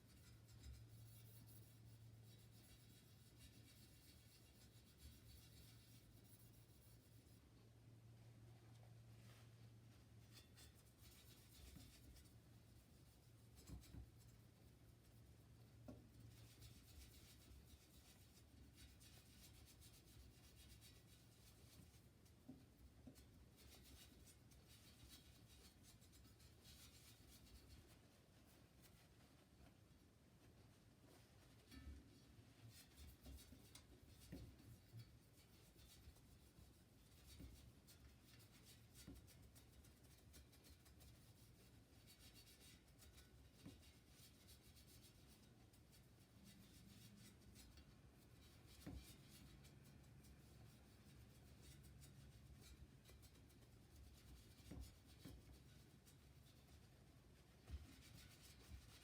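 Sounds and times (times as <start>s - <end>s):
faint scratching: 0.0s - 59.0s.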